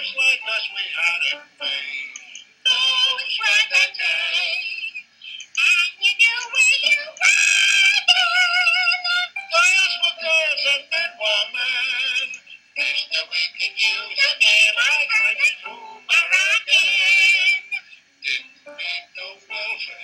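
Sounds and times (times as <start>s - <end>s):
ringtone singing over music: 0.0s - 4.9s, 5.5s - 20.0s.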